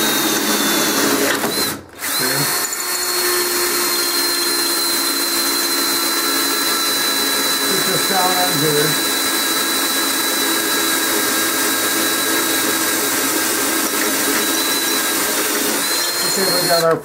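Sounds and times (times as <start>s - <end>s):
electric drill whining through metal: 0.0s - 17.0s.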